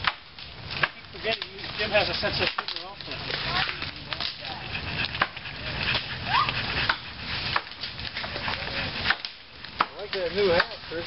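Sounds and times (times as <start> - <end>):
sticks snapping and crackling: 0.0 - 11.0
rustling brush: 0.5 - 11.0.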